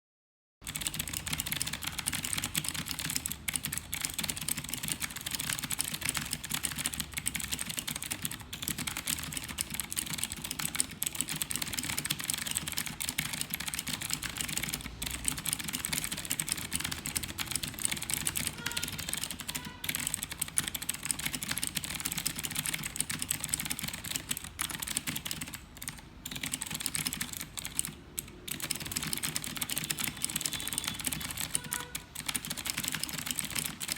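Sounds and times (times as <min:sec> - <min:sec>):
mechanical keyboard typing: 0:00.6 - 0:33.9.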